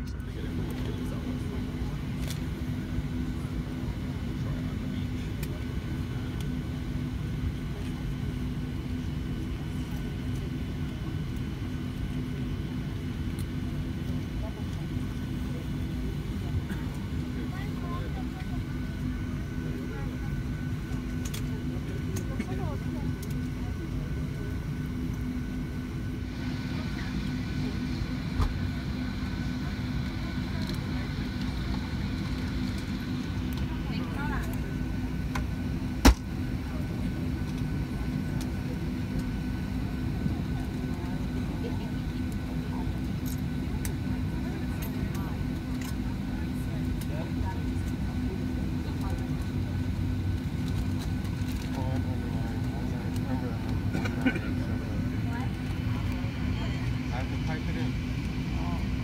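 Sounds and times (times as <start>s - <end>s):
aircraft cabin air conditioning hum: 0.0s - 59.0s.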